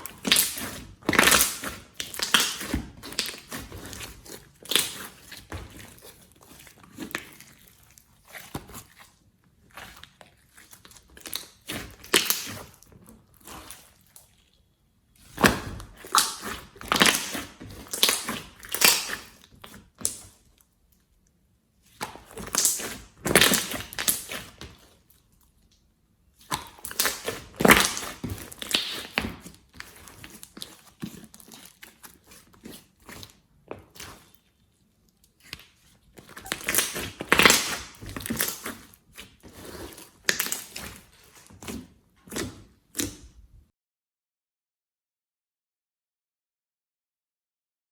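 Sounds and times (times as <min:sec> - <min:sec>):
hands squishing slime: 0:00.0 - 0:20.6, 0:21.8 - 0:43.6.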